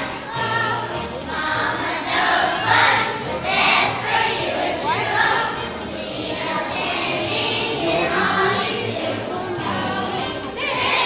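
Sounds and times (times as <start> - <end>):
children's choir singing: 0.0 - 11.0
musical accompaniment: 0.0 - 11.0.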